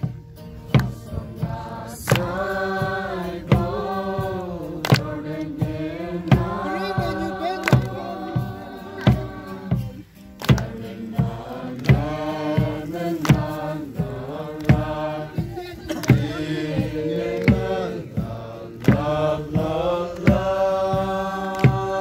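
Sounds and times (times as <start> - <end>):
clap-like beats: 0.0 - 22.0
men singing together: 0.5 - 22.0.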